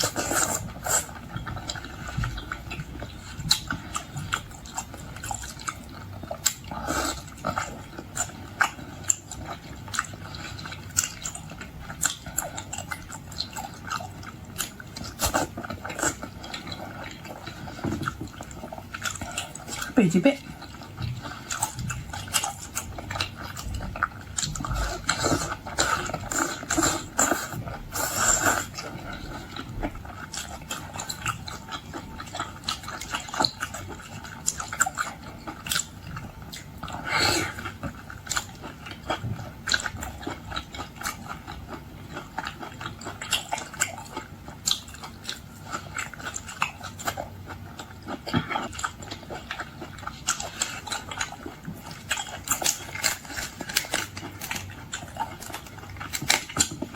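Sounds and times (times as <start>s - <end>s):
person chewing and smacking: 0.0s - 56.9s.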